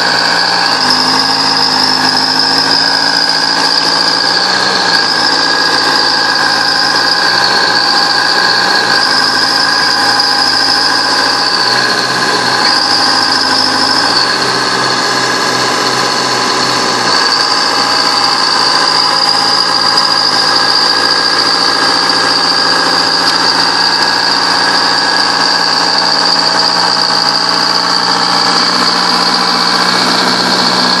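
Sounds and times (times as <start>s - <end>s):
bulldozer engine running: 0.0s - 31.0s
high whine: 0.0s - 31.0s.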